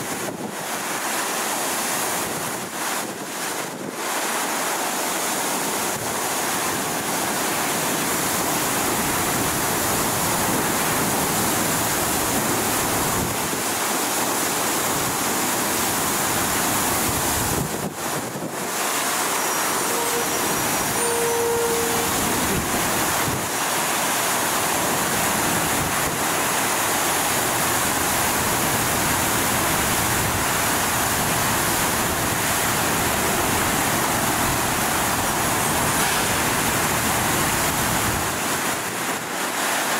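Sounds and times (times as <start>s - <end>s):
water gushing from fire hydrant: 0.0s - 39.9s.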